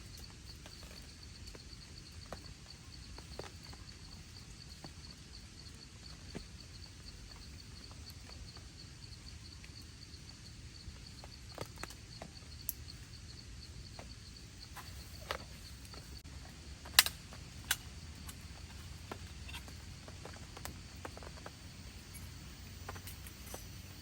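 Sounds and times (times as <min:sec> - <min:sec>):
insect trill: 0:00.0 - 0:24.0.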